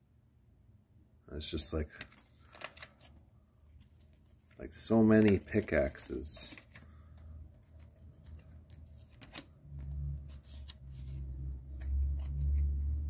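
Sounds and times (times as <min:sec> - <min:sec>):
cards flicking and rustling: 0:01.8 - 0:13.0.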